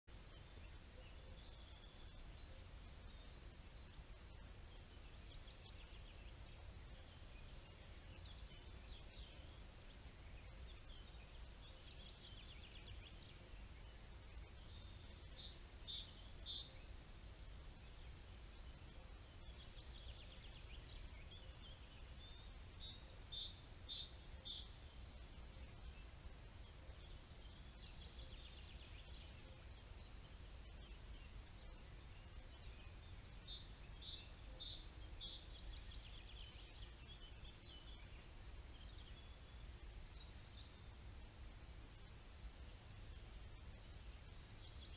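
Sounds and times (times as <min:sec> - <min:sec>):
soft bird twittering: 0:00.1 - 0:41.0
low steady rumble: 0:00.1 - 0:44.9.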